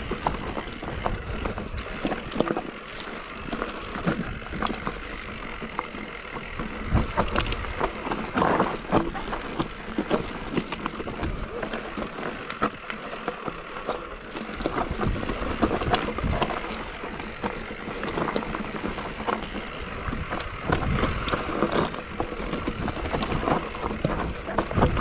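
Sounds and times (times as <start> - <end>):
bike rattling and knocking: 0.0 - 25.0
tyres crunching over dirt and rocks: 0.0 - 25.0.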